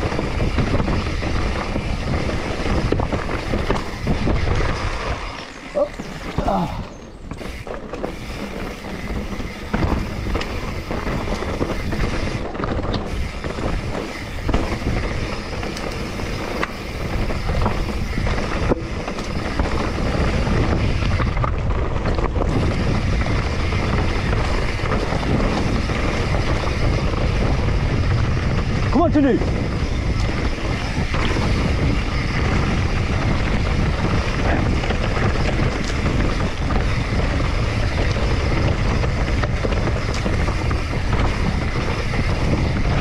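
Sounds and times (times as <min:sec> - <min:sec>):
bike tyres crunching over stones: 0:00.0 - 0:43.0
wind buffeting microphone: 0:00.0 - 0:43.0.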